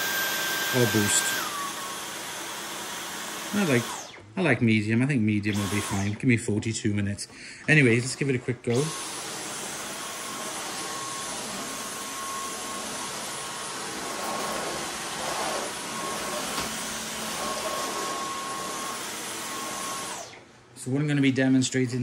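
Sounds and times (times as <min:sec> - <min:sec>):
vacuum cleaner running: 0:00.0 - 0:04.3, 0:05.4 - 0:06.2, 0:07.7 - 0:20.6.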